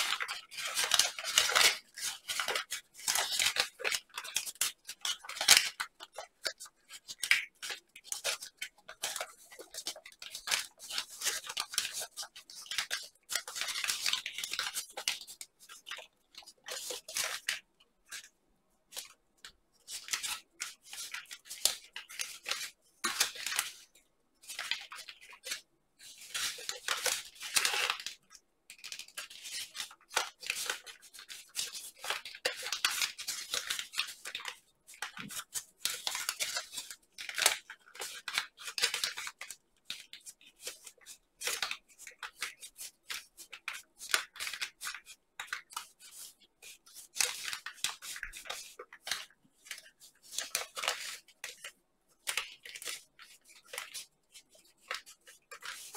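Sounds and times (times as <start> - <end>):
paper rustling and crinkling: 0.0 - 18.3, 19.8 - 55.9.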